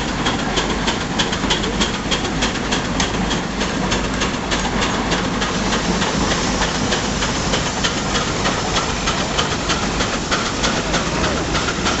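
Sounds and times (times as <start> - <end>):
steam engine exhaust chuffing: 0.0 - 12.0
steam hissing: 0.0 - 12.0.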